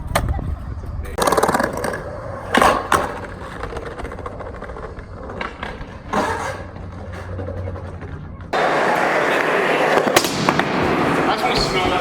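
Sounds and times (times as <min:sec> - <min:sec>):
skateboard wheels rolling: 0:00.0 - 0:12.0
skateboard clacks: 0:01.1 - 0:12.0.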